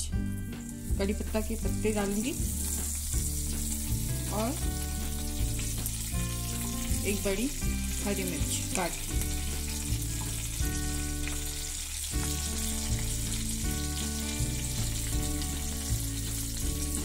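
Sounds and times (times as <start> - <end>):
background music with bass line: 0.0 - 17.0
spices sizzling in hot oil: 0.0 - 17.0.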